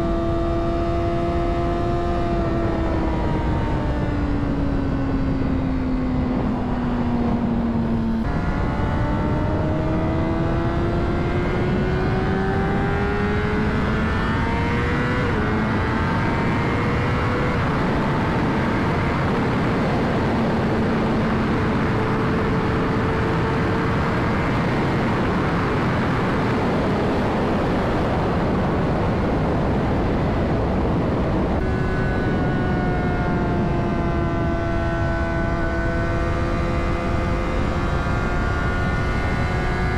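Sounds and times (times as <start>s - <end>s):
motorcycle engine revving: 0.0s - 28.2s, 30.2s - 39.9s
wind rushing on microphone: 0.0s - 39.9s.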